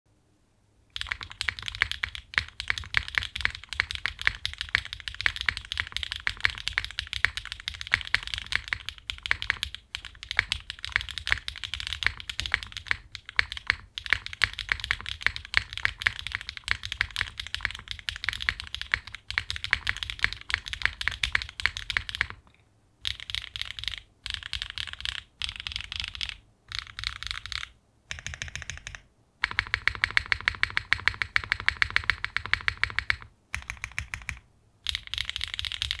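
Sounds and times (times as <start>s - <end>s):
mechanical keyboard typing: 0.9s - 36.0s.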